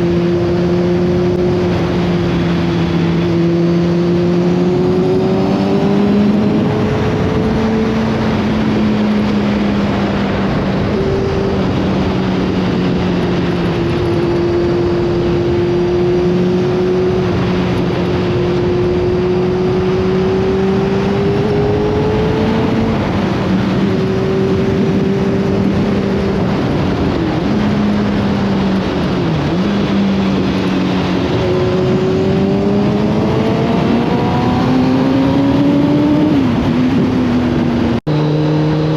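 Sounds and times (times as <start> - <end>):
motorcycle engine cruising: 0.0 - 38.9
riding wind rush: 0.0 - 38.9.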